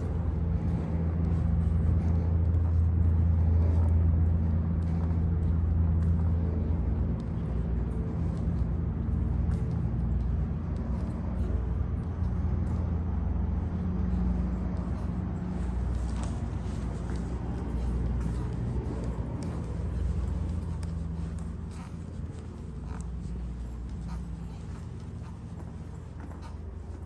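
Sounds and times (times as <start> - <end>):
vehicle engine droning: 0.0 - 27.0.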